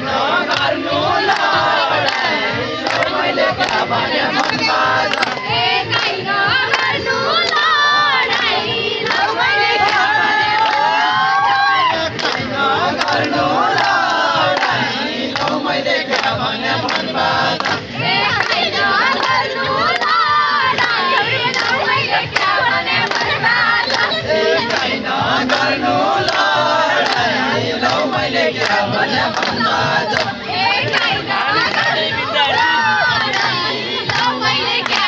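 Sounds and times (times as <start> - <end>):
crowd shouting: 0.0 - 35.0.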